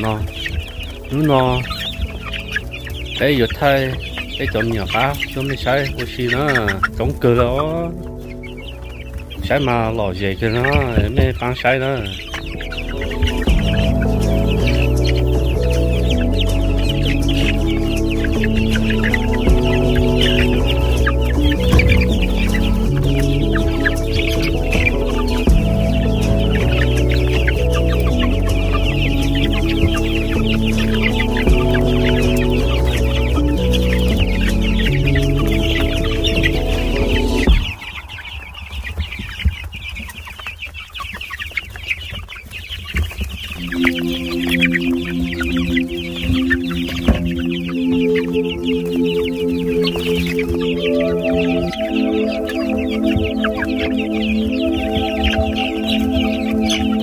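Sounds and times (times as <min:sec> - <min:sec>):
chickens clucking and calling: 0:00.0 - 0:57.0
music: 0:00.0 - 0:57.0.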